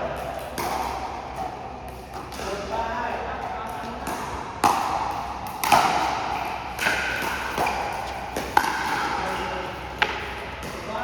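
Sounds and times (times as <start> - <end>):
ball bouncing on court: 0.0 - 2.6, 3.5 - 11.0.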